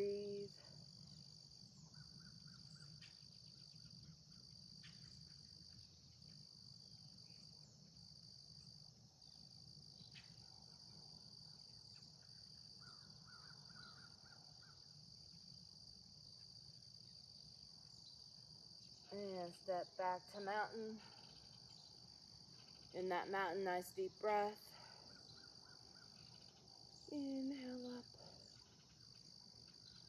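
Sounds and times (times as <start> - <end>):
insect chirring: 0.0 - 30.0.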